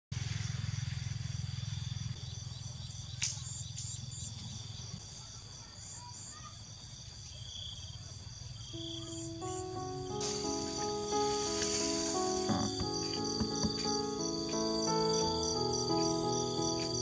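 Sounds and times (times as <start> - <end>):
high insect chorus chirping: 0.3 - 17.0.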